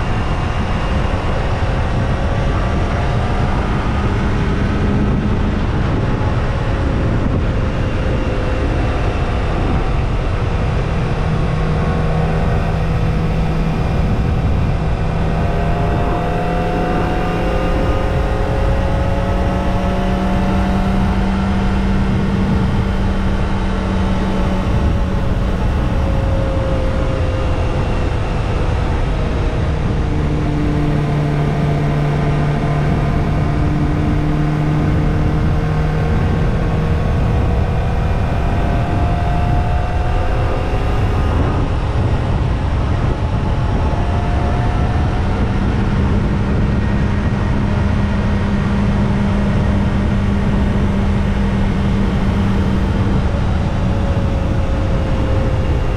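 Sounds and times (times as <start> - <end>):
low noise rush: 0.0 - 55.9
motorcycle engine running: 0.0 - 55.9.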